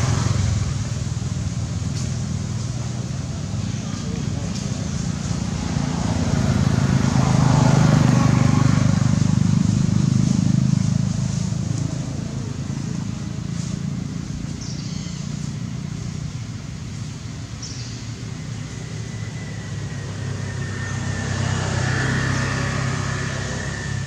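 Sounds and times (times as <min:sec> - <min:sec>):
engine droning: 0:00.0 - 0:24.0.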